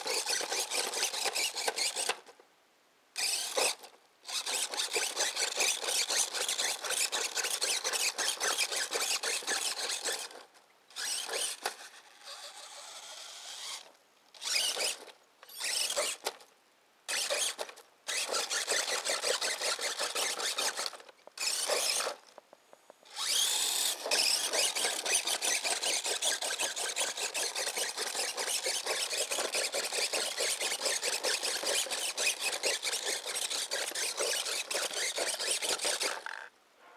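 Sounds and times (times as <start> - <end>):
toy car electric motor whirring: 0.0 - 2.3, 3.2 - 16.5, 17.1 - 22.4, 23.0 - 36.5.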